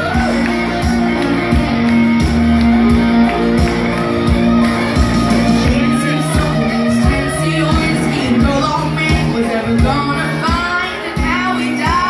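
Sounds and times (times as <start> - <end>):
country-pop backing track: 0.0 - 12.0.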